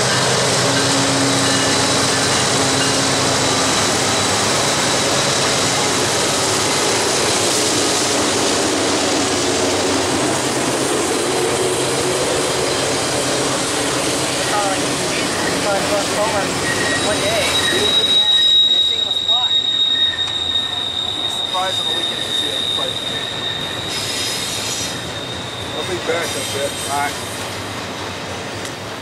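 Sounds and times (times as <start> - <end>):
diesel locomotive engines droning: 0.0 - 29.0
train wheels rumbling on rails: 0.0 - 29.0.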